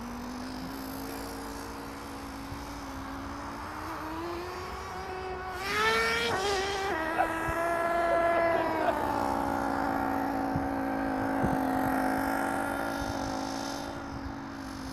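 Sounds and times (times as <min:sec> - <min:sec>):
toy truck motor buzzing: 0:00.0 - 0:14.9.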